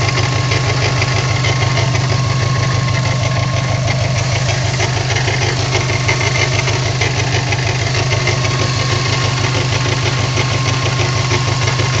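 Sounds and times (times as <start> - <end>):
car engine running: 0.0 - 12.0
engine ticking: 0.0 - 12.0.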